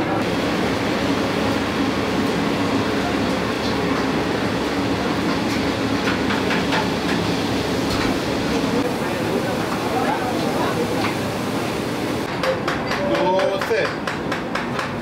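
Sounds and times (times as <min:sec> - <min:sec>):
kitchen machinery rumble: 0:00.0 - 0:15.0.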